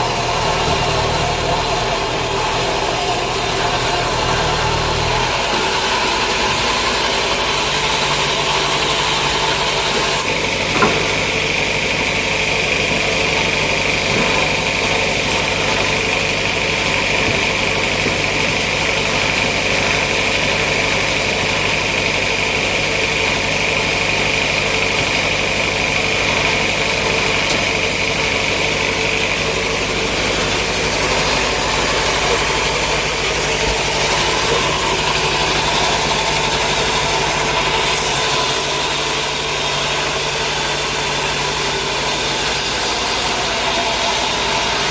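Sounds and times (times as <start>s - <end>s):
sawmill machinery running: 0.0s - 44.9s.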